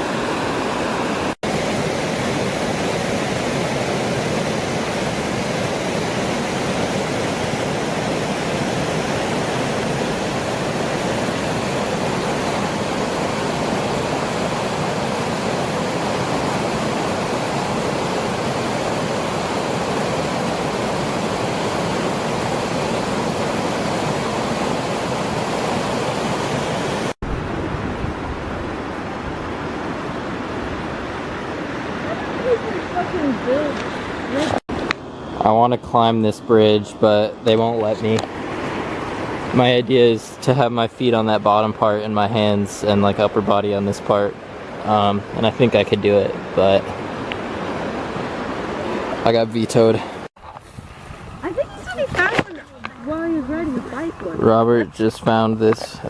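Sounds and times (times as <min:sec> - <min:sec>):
rushing water: 0:00.0 - 0:35.6, 0:36.4 - 0:56.0.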